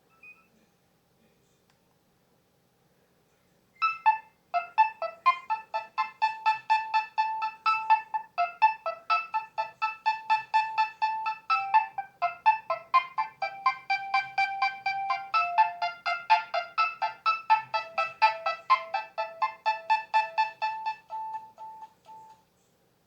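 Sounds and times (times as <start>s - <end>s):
mobile phone ringtone melody: 3.8s - 22.4s.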